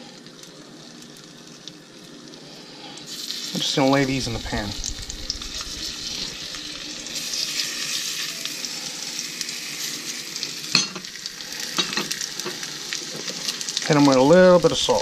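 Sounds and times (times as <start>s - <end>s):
mushrooms sizzling in butter: 0.1s - 15.0s.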